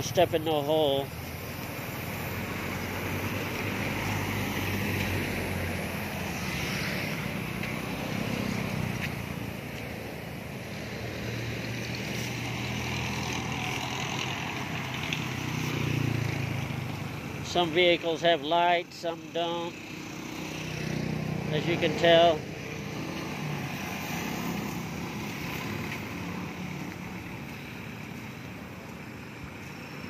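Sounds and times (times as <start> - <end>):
motorcycles passing: 0.0 - 30.0.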